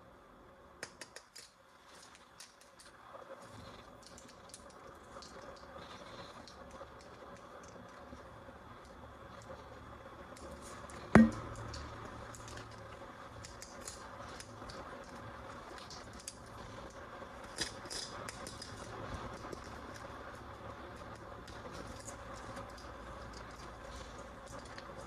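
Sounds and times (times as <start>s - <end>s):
light clicks of toys: 0.8s - 25.0s.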